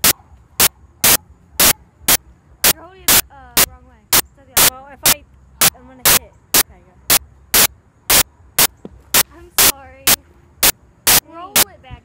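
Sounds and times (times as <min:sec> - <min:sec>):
static clicks: 0:00.0 - 0:11.8.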